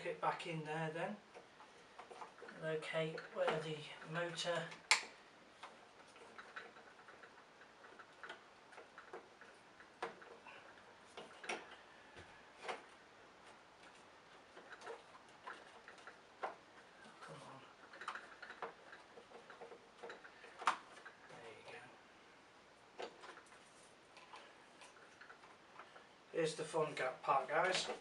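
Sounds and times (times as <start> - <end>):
plastic parts clicking and knocking: 1.2 - 22.1, 22.8 - 26.2, 26.8 - 28.0.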